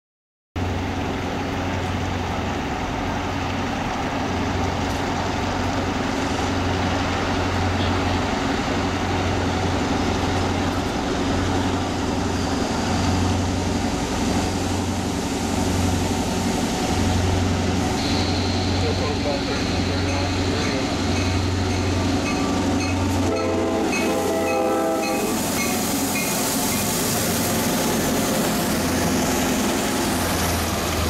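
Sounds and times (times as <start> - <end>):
diesel locomotive engine drone: 0.6 - 31.0.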